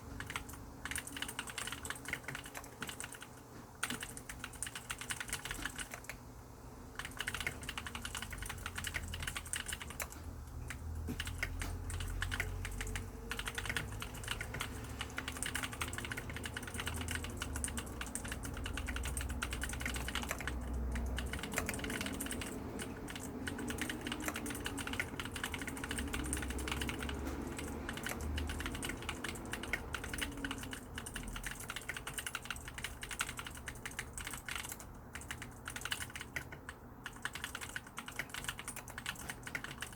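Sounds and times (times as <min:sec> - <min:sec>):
mechanical keyboard typing clicks: 0:00.0 - 0:06.2, 0:07.0 - 0:39.9.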